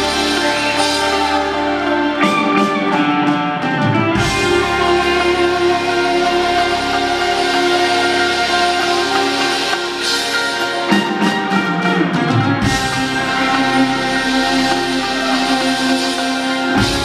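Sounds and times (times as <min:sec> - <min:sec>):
electric guitar chords: 0:00.0 - 0:17.0
rock band playing: 0:00.0 - 0:17.0.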